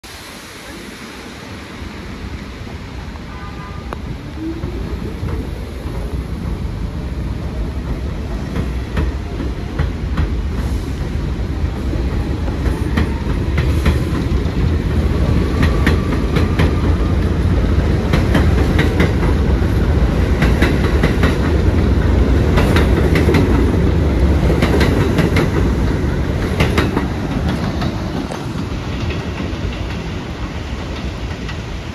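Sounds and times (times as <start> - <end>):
train wheels clacking on rails: 4.0 - 31.9.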